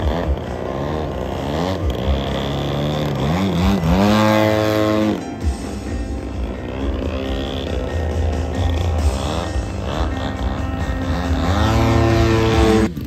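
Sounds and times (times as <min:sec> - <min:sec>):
model airplane engine: 0:00.0 - 0:13.0.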